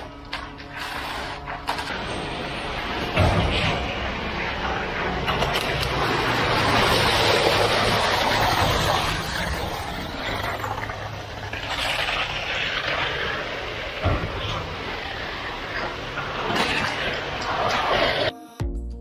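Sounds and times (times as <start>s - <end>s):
pump truck engine drone: 0.0s - 18.3s
wet concrete rushing from hose: 0.0s - 18.3s.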